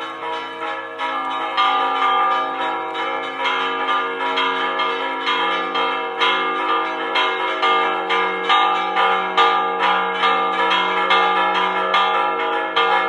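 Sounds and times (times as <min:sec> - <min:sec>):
church bells ringing peal: 0:00.0 - 0:13.0.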